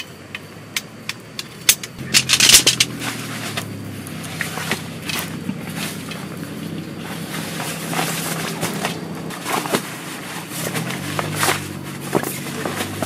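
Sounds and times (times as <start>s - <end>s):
steady low hum: 0.0s - 13.0s
fabric gear crinkling and rustling: 2.1s - 13.0s.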